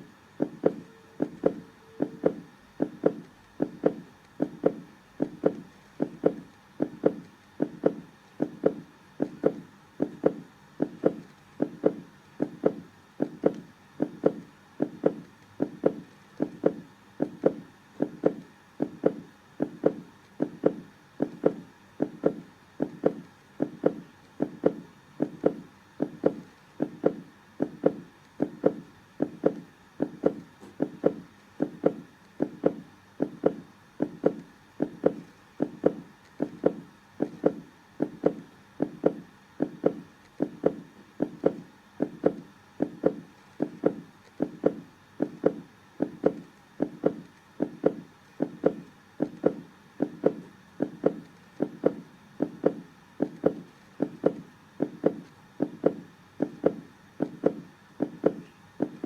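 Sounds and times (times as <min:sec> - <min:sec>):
heartbeat thuds: 0:00.0 - 0:59.0.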